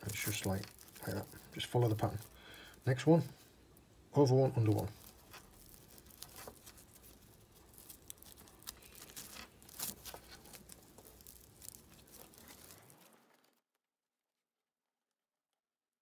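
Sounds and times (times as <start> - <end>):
rope rustling and crinkling: 0.0 - 13.6.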